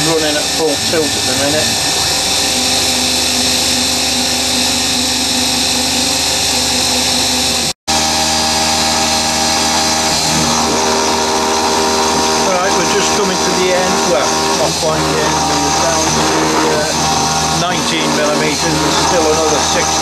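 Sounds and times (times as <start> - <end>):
milling spindle whining: 0.0 - 20.0.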